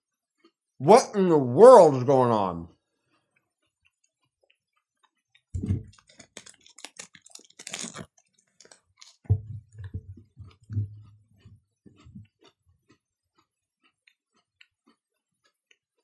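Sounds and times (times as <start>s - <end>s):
chewing with wet mouth clicks: 0.3s - 0.7s, 3.0s - 16.0s.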